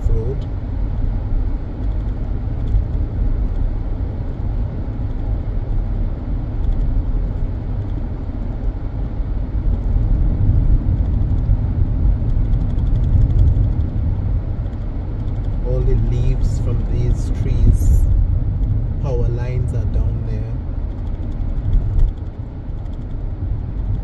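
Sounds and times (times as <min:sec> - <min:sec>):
road and tyre noise in car: 0:00.0 - 0:24.0.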